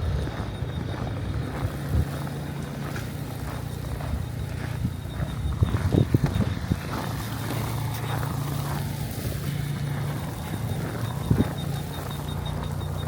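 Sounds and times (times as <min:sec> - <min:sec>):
boots crunching in snow: 0:00.0 - 0:12.8.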